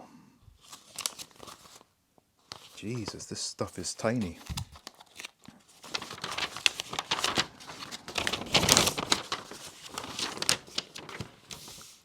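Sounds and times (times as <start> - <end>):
packaging rustling and crinkling: 0.6 - 3.2, 4.2 - 12.0.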